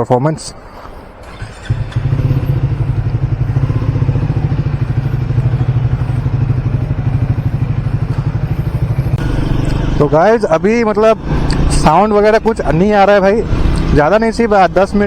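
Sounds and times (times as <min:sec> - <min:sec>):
motorcycle engine running: 0:01.3 - 0:15.0.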